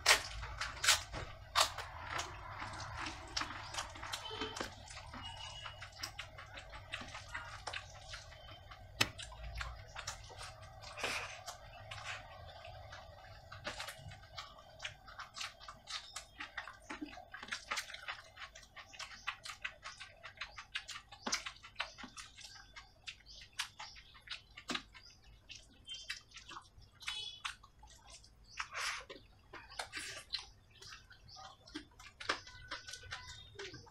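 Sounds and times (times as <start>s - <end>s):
wet chewing: 0.0s - 33.9s
mouth clicks: 1.6s - 33.9s.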